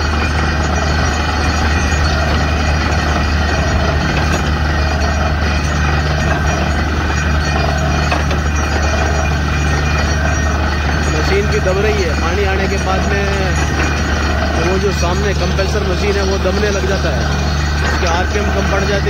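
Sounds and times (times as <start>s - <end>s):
drilling rig engine drone: 0.0s - 19.0s.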